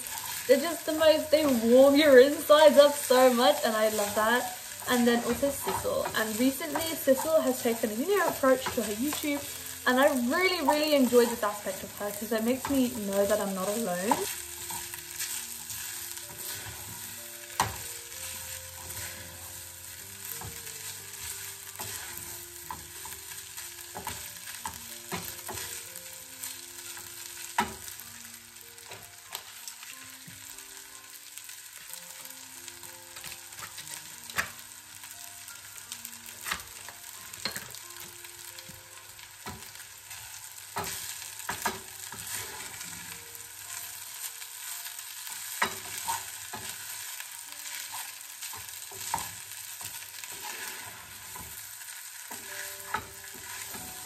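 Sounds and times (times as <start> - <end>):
wooden spoon scraping a pan: 0.0 - 28.0, 38.4 - 54.0
rice sizzling in a saucepan: 0.0 - 54.0.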